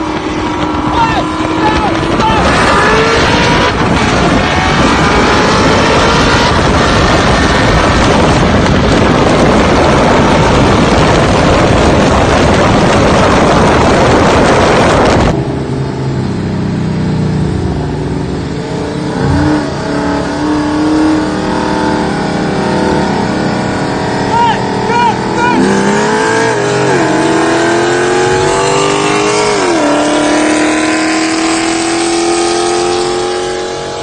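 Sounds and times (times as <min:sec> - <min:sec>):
cars accelerating at full throttle: 0:00.0 - 0:34.0
rushing wind: 0:00.0 - 0:34.0.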